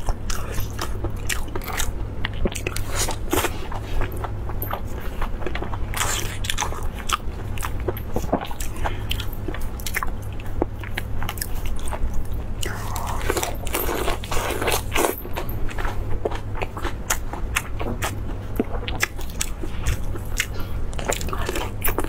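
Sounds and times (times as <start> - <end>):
crunching lettuce: 0.0 - 22.0.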